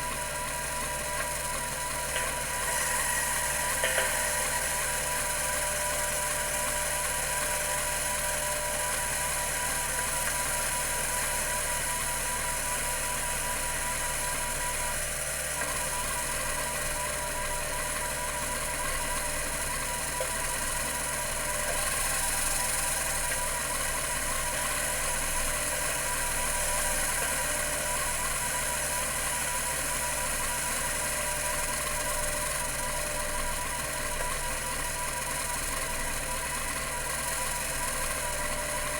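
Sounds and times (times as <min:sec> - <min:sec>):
hard drive mechanical chatter: 0:00.0 - 0:38.9.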